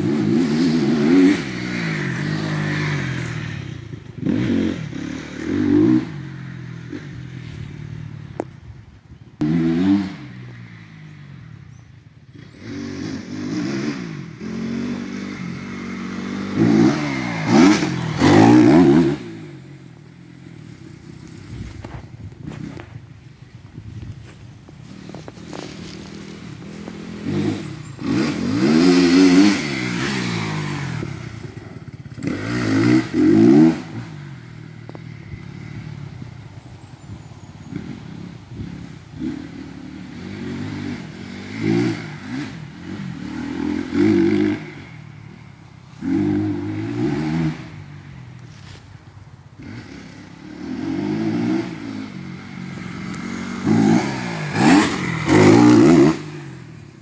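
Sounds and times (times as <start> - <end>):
dirt bike engine revving: 0.0 - 8.0, 9.4 - 11.5, 12.3 - 23.5, 24.2 - 48.1, 49.6 - 57.0.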